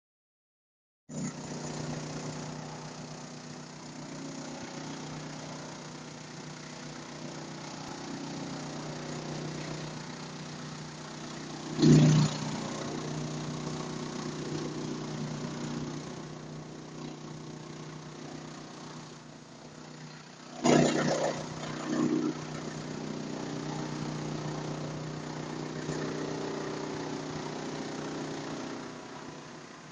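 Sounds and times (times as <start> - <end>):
wood chipper humming: 1.1 - 29.9.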